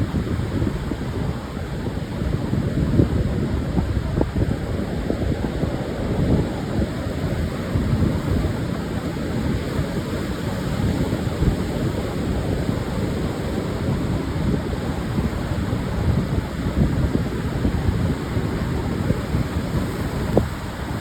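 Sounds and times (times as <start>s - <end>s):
surf washing on beach: 0.0s - 21.0s
wind buffeting microphone: 0.0s - 21.0s.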